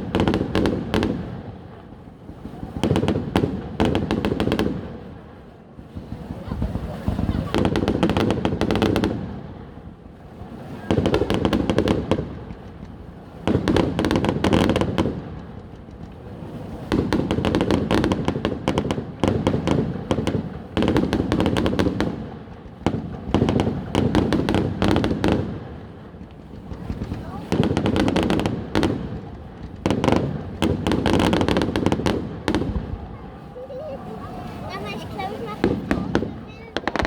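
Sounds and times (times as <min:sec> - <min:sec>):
fireworks crackling bursts: 0:00.0 - 0:37.0.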